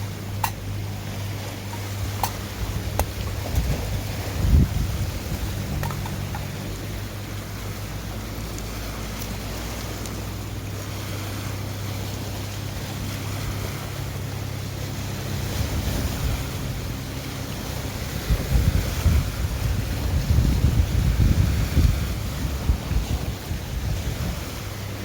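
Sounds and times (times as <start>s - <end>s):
steady low hum: 0.0s - 25.0s
surf washing in: 0.0s - 25.0s
wind buffeting microphone: 0.0s - 25.0s.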